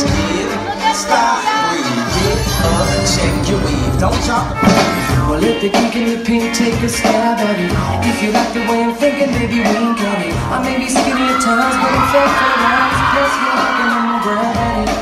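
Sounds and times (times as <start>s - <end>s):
loud song with steady beat: 0.0s - 15.0s.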